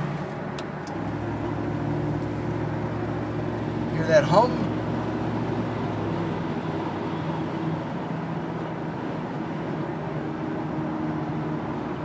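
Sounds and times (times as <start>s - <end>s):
car interior low drone: 0.0s - 12.0s
tyre and road noise: 0.0s - 12.0s.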